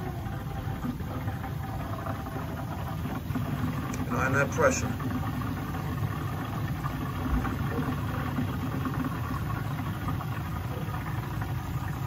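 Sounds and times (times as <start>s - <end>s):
water rumbling through boiler pipes: 0.0s - 12.0s.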